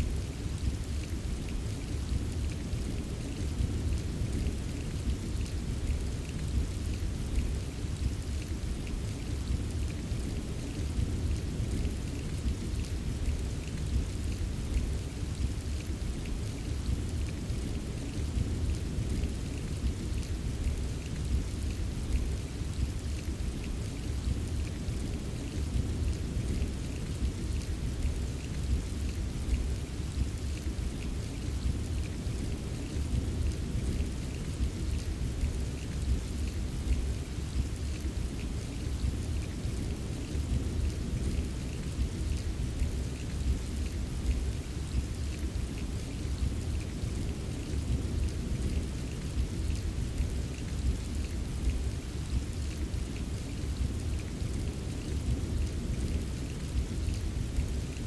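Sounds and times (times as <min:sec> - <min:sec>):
heavy rain rumble: 0:00.0 - 0:58.0.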